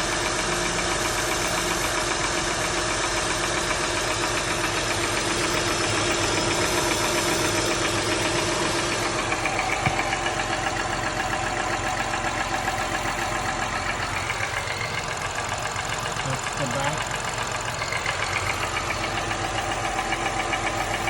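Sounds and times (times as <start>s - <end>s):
car engine idling: 0.0s - 21.0s
rapid engine knocking: 0.0s - 21.0s.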